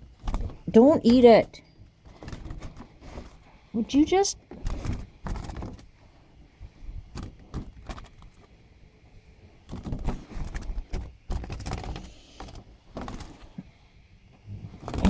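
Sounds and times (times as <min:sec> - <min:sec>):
rustling handling noises: 0:00.0 - 0:15.0.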